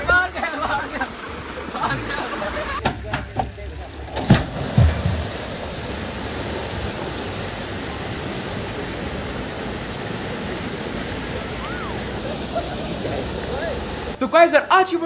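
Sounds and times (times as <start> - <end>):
water torrent splashing on ground: 0.0 - 15.0.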